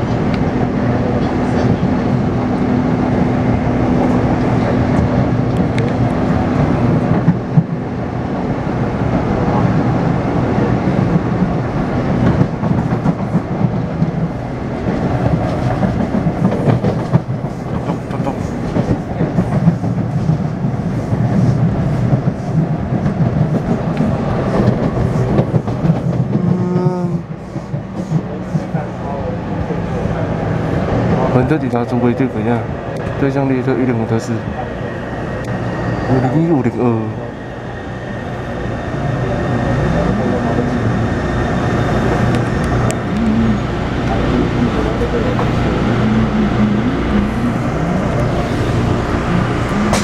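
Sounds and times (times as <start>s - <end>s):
train wheels rumbling: 0.0s - 50.0s.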